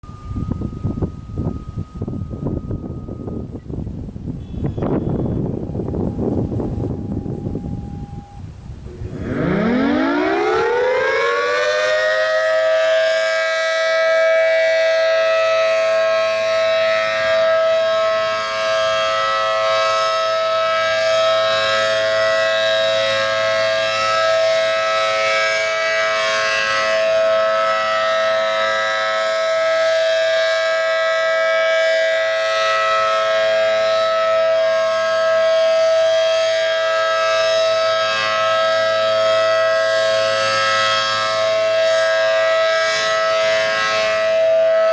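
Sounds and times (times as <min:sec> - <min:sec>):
warning siren two-note chord: 0:00.0 - 0:03.7, 0:04.4 - 0:44.9.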